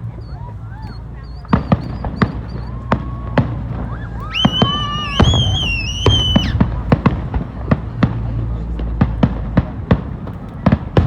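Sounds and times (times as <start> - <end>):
fireworks popping: 0.0 - 11.0
whistling firework: 0.0 - 11.0.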